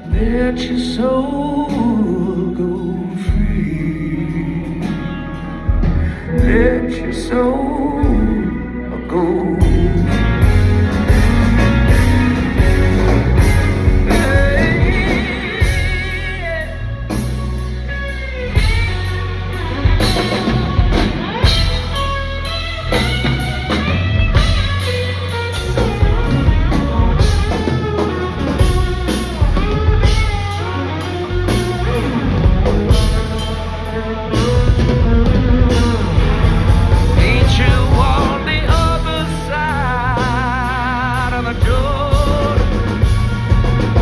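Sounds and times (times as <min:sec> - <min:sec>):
drum kit: 0:00.0 - 0:00.7, 0:03.2 - 0:06.9, 0:09.6 - 0:44.0
bass: 0:00.0 - 0:44.0
electric guitar with bent notes: 0:00.0 - 0:44.0.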